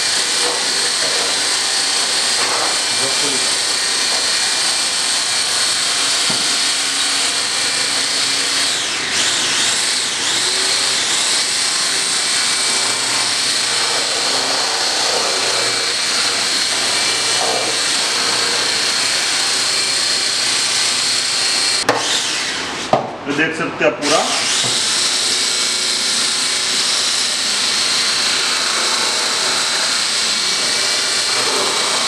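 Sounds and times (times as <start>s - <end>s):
electric hand blender whining: 0.0s - 23.0s, 24.0s - 32.0s.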